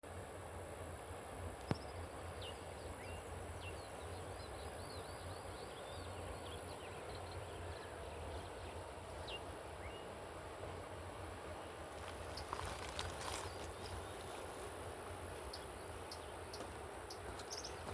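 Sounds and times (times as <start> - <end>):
birds chirping: 1.7 - 10.8, 11.5 - 17.9.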